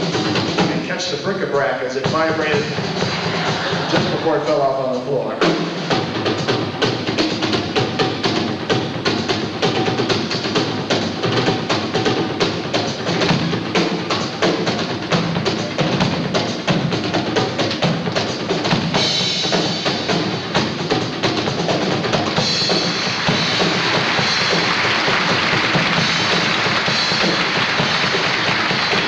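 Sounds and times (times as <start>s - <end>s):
drum solo: 0.0s - 29.0s.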